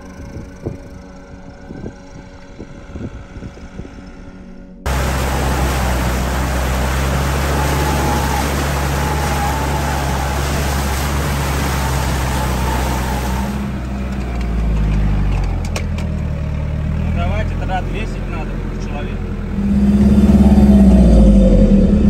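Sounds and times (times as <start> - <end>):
off-road vehicle engine: 0.0 - 22.0.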